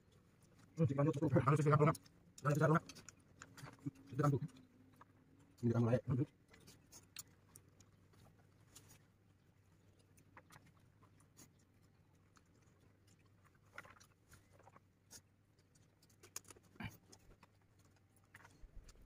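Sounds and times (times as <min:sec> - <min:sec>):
faint clicks and rustles of eating: 0:00.0 - 0:19.0.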